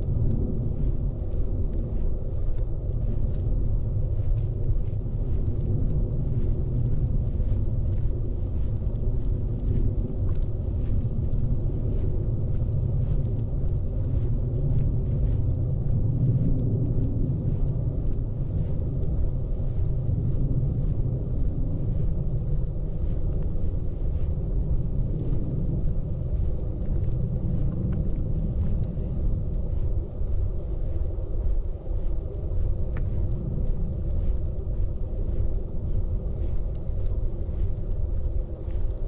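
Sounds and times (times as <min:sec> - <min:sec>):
wind rumble on microphone: 0:00.0 - 0:39.0.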